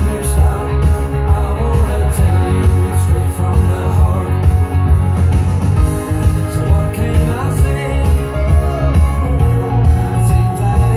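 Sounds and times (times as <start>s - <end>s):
loud music with singing: 0.0s - 10.9s.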